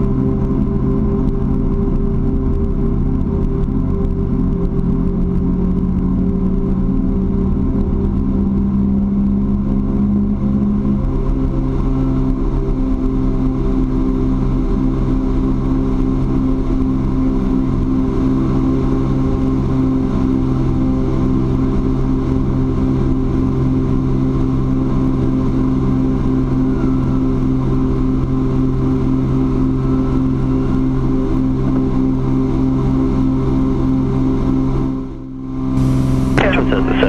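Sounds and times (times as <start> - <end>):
aircraft engines and propellers droning: 0.0 - 37.0.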